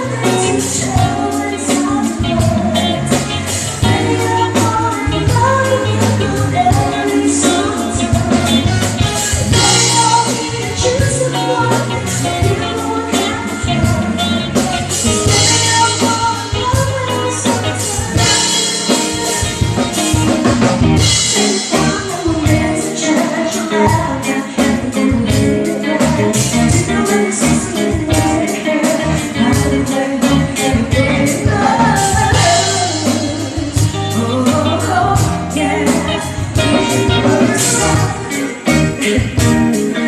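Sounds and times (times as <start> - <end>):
drum kit beat: 0.0 - 40.0
live band playing: 0.0 - 40.0
person singing: 0.0 - 40.0.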